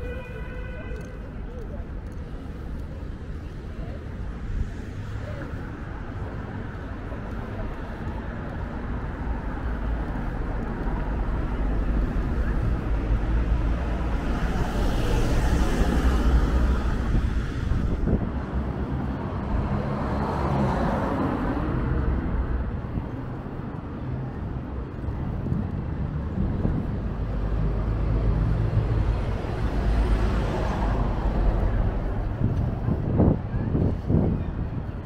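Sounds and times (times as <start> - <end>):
low traffic rumble: 0.0 - 35.0
vehicles driving past: 0.0 - 35.0.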